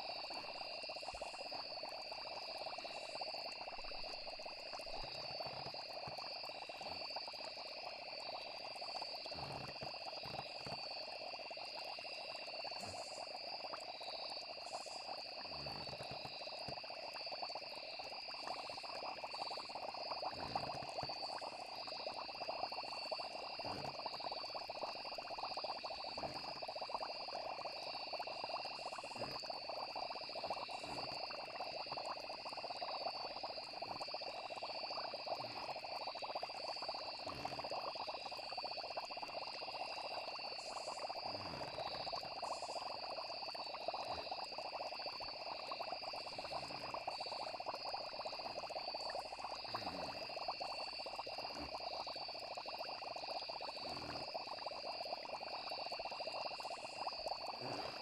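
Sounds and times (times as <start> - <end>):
cauldron bubbling: 0.0 - 58.0
frogs croaking: 0.0 - 58.0
insects chirping: 0.0 - 58.0.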